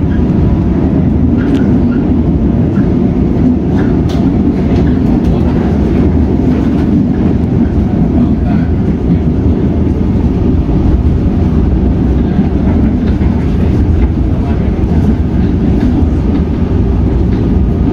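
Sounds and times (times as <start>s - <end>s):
train wheels rumbling on rail: 0.0s - 17.9s.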